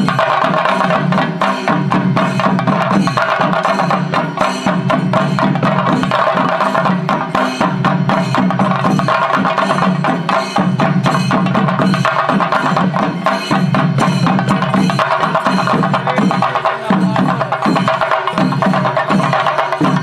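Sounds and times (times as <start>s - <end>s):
drums beaten with sticks: 0.0s - 20.0s.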